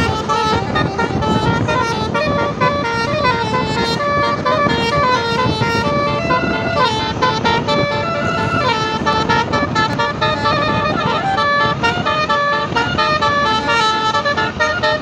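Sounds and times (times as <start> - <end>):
bus musical horn playing a tune: 0.0 - 15.0.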